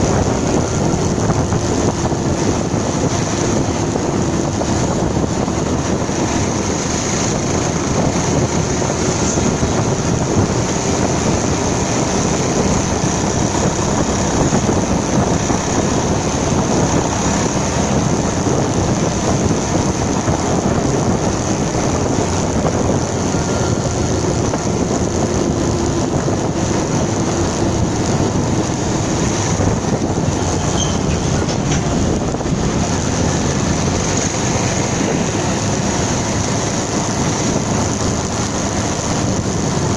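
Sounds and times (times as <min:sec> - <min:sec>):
motorcycle engine tone: 0:00.0 - 0:39.9
wind and road noise: 0:00.0 - 0:39.9.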